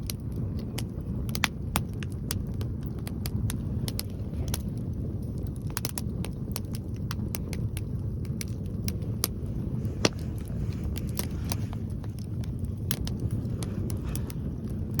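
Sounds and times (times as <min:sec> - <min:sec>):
bonfire crackling and popping: 0:00.0 - 0:15.0
wind rumbling on microphone: 0:00.0 - 0:15.0.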